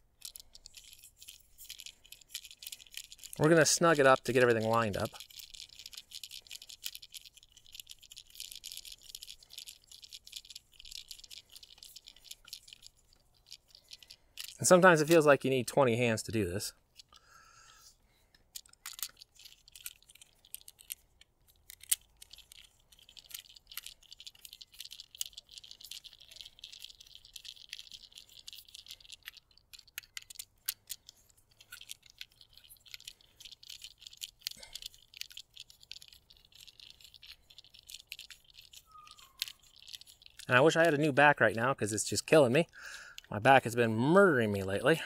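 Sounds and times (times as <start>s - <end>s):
faint clicks and rattles of tools: 0.0s - 45.0s.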